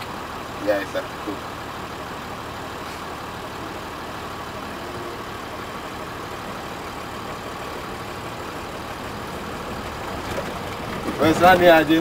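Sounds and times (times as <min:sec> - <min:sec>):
truck engine running at low speed: 0:00.0 - 0:12.0.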